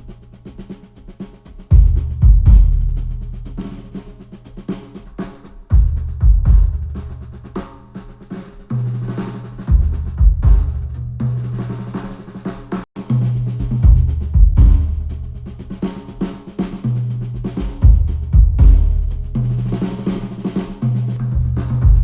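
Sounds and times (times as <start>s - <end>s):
drum-driven instrumental music: 0.0s - 22.0s.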